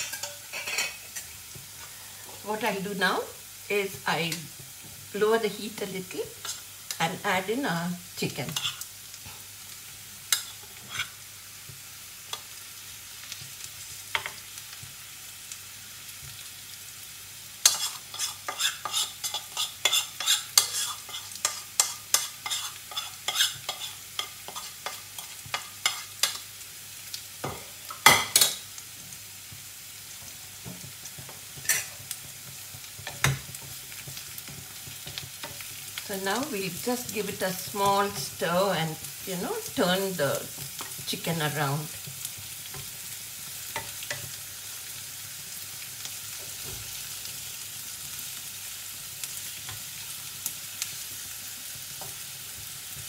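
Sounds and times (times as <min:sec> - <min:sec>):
food sizzling in hot oil: 0:00.0 - 0:53.0.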